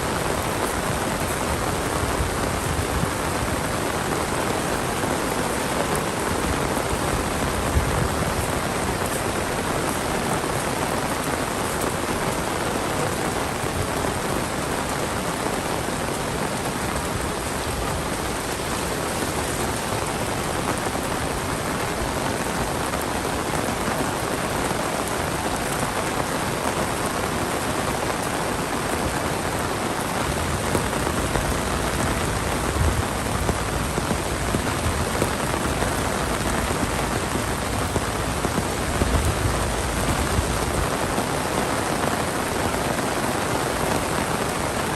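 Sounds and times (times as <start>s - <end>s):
heavy rain downpour: 0.0s - 44.9s.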